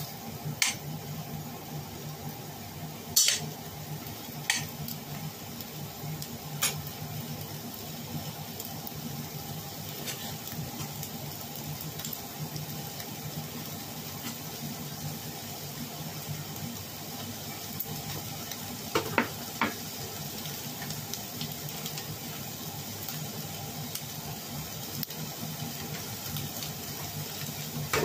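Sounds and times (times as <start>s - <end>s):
chicken sizzling in a pot: 0.0s - 28.0s.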